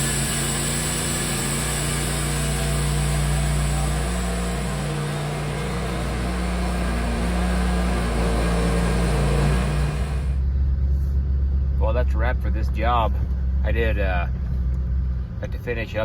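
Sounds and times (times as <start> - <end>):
band sawmill engine drone: 0.0 - 16.0.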